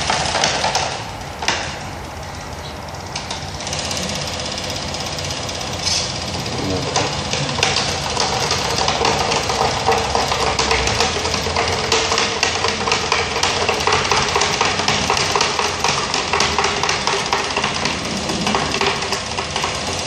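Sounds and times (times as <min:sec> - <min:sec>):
small pump running: 0:00.0 - 0:20.0.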